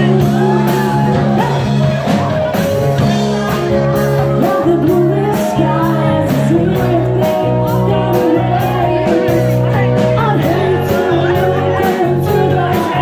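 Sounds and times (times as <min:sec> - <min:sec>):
person singing: 0:00.0 - 0:02.1, 0:03.0 - 0:13.0
electric guitar: 0:00.0 - 0:13.0.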